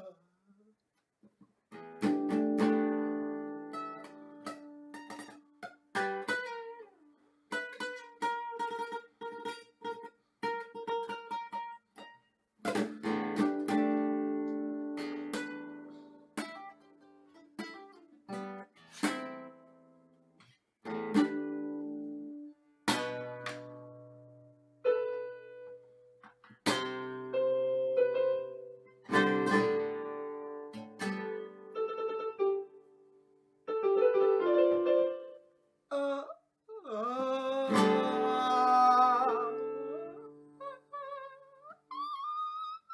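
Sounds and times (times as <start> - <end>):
classical guitar playing: 1.7 - 35.5, 36.9 - 42.9.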